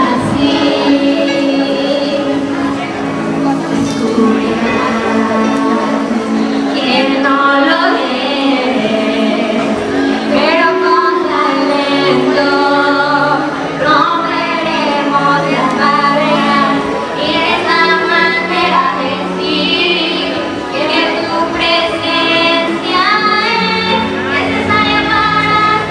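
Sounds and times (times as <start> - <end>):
girls singing a slow ballad: 0.0 - 25.9
instrumental accompaniment: 0.0 - 25.9.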